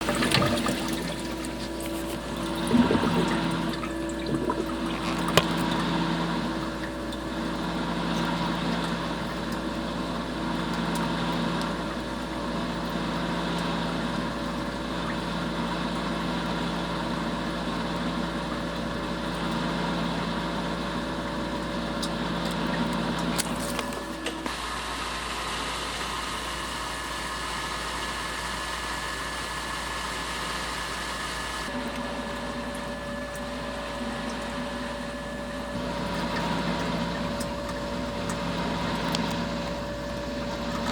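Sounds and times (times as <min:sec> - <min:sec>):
engine with whirring water pump: 0:00.0 - 0:40.9.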